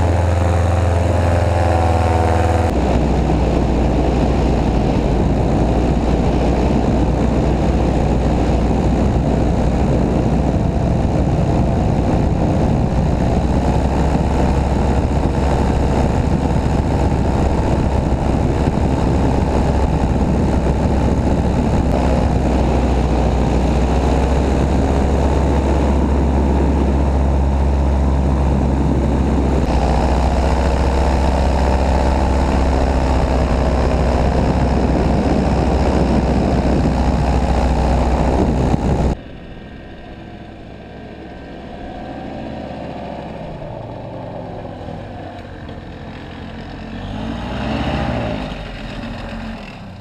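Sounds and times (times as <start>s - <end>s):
paramotor engine running: 0.0s - 50.0s.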